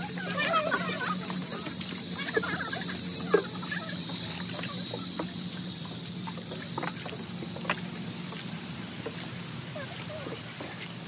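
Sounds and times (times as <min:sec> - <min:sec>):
paddles dipping in water: 0:00.0 - 0:11.0
steady low hum: 0:00.0 - 0:11.0.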